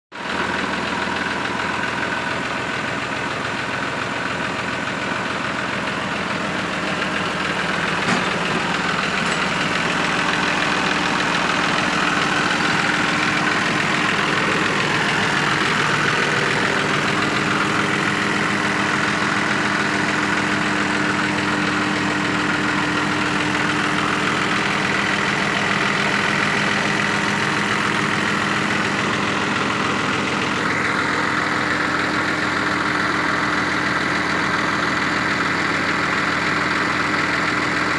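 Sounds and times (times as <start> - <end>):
engine idling: 0.1 - 37.9.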